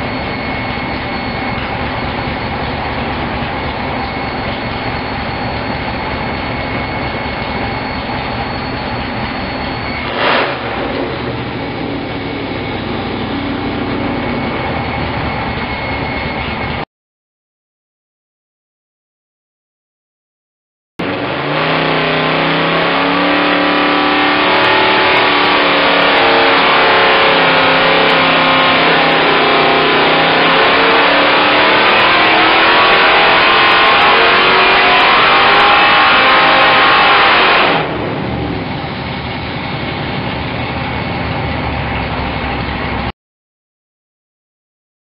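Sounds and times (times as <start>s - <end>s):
engine running under load: 0.0s - 16.8s, 21.0s - 43.1s.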